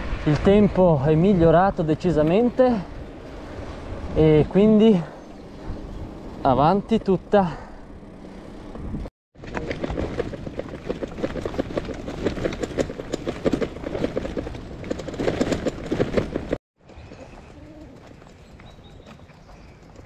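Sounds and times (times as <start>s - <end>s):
bike and bags rattling: 0.0s - 20.0s.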